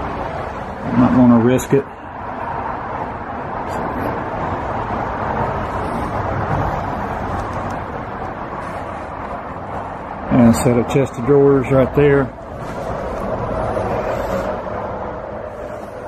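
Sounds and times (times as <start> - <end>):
highway traffic rushing past: 0.0 - 16.0.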